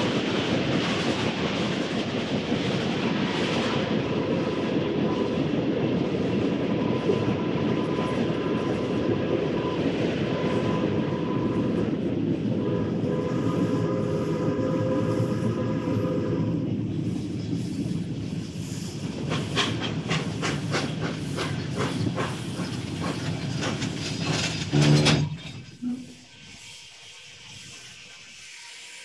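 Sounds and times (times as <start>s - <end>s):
steam train rumbling on rails: 0.0s - 29.0s.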